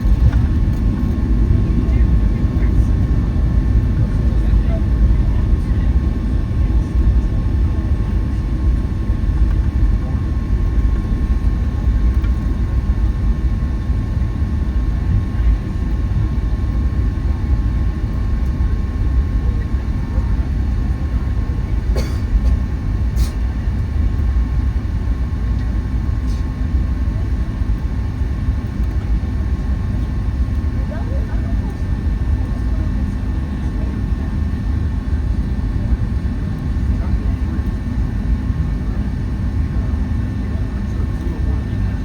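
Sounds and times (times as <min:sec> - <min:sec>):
airplane cabin rumble: 0:00.0 - 0:42.0.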